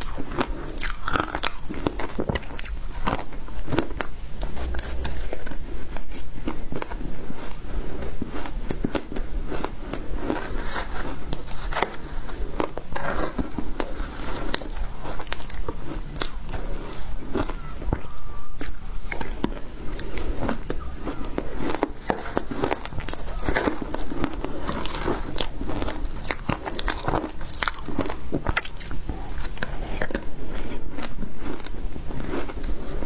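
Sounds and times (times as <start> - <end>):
ice crunching in mouth: 0.0 - 33.0.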